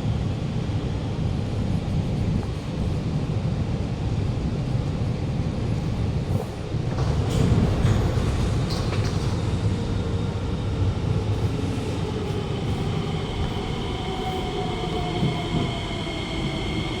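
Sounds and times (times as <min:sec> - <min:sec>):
train wheels rumbling on track: 0:03.2 - 0:17.0.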